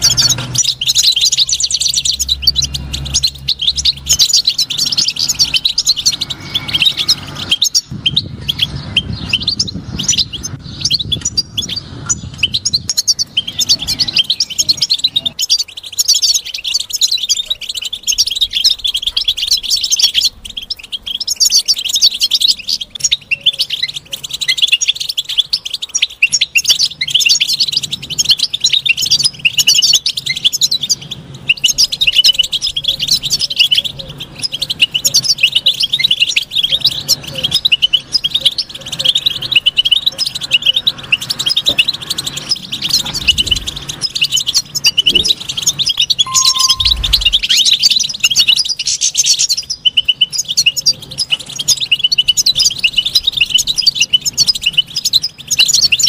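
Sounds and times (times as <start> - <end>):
bird twittering and trilling: 0.0 - 56.0.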